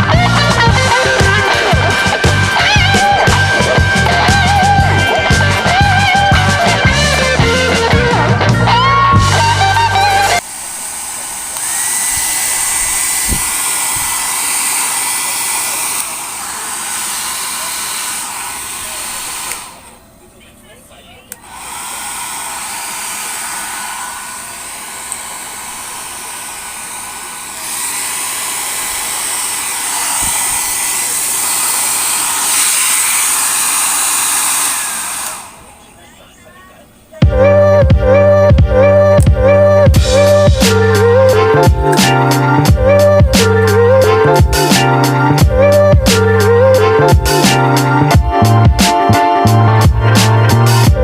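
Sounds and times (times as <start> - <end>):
hair dryer running: 0.0 - 20.1, 21.4 - 36.0, 37.8 - 51.0.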